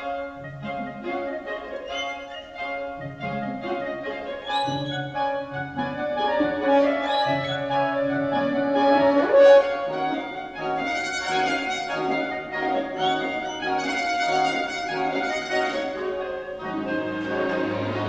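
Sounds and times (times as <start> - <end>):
orchestra strings and brass: 0.0 - 18.0.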